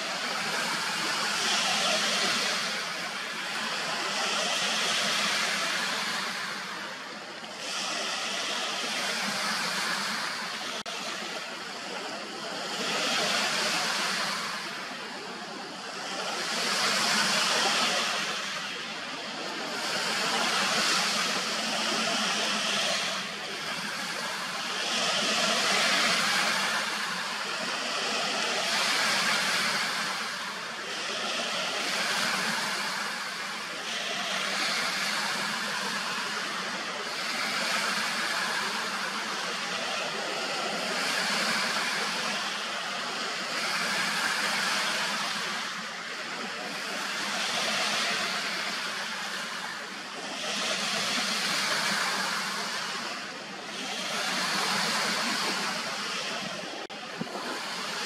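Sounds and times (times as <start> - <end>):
lake waves washing onto shore: 0.0 - 58.0.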